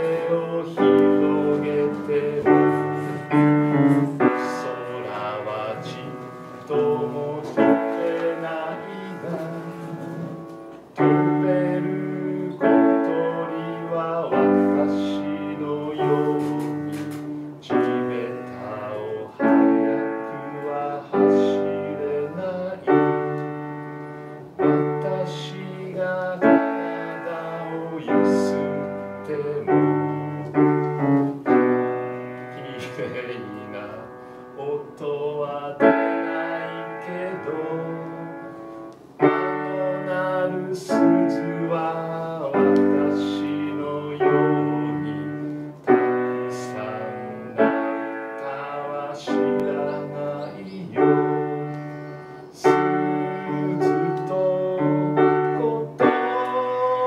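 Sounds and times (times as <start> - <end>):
slow gentle piano chords: 0.0 - 57.0.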